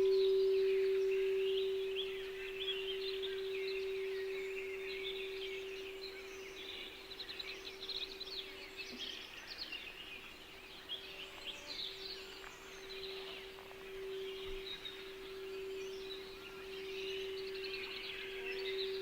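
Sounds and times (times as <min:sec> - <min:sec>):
steady low tone: 0:00.0 - 0:09.0, 0:12.0 - 0:19.0
songbirds chirping: 0:00.0 - 0:19.0.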